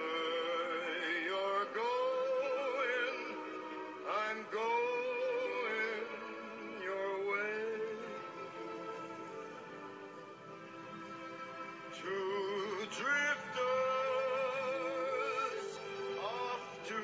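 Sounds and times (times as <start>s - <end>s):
steady musical accompaniment: 0.0s - 17.0s.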